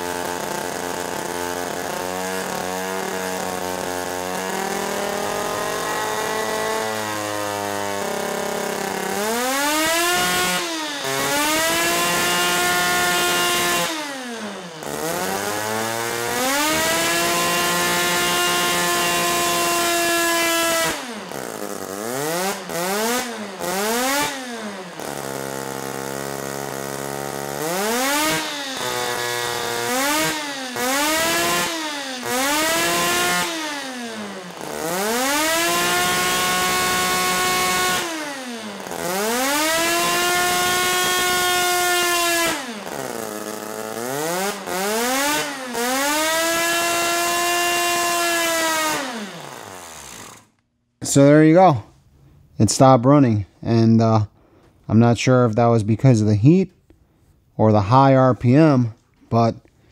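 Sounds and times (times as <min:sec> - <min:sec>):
rotary engine revving: 0:00.0 - 0:51.2.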